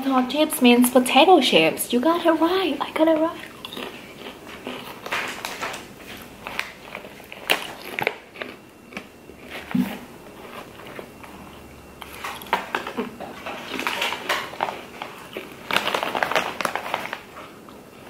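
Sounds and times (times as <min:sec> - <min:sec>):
foil chip bag crinkling: 0:02.3 - 0:18.0
potato chips crunching: 0:02.8 - 0:18.0.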